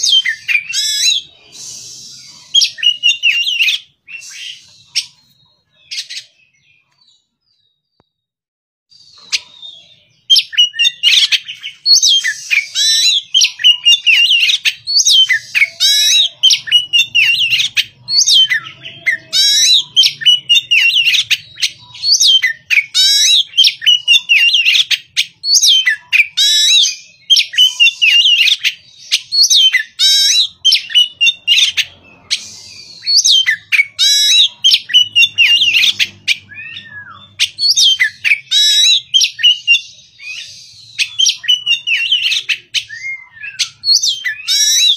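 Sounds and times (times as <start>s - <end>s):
bird singing whistles and chatter: 0.0s - 7.2s, 8.9s - 44.9s.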